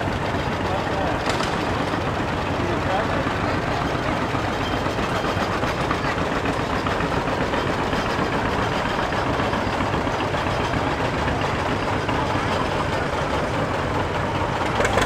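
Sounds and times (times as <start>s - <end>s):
tractor engines passing: 0.0s - 15.0s.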